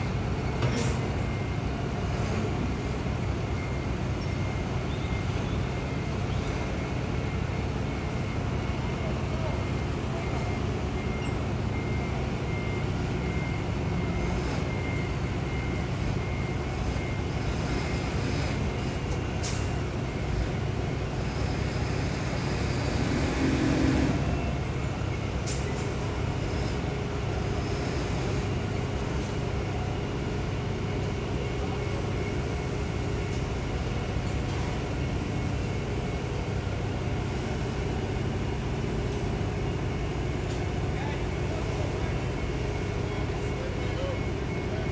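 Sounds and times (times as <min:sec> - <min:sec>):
heavy vehicles rumbling: 0:00.0 - 0:44.9.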